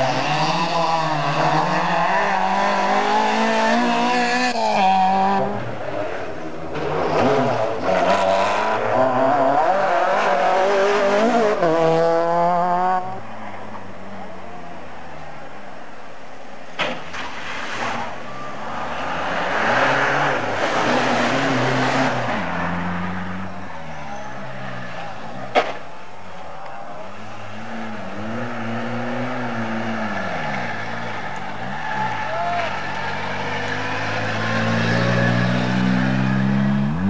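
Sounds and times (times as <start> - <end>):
rally car passing: 0.0 - 15.5, 17.3 - 37.0
rally car approaching: 0.0 - 15.6, 17.5 - 37.0.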